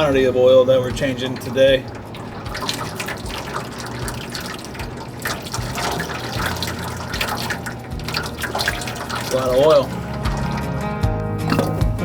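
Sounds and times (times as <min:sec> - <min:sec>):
oil pouring and splashing: 0:00.0 - 0:12.0.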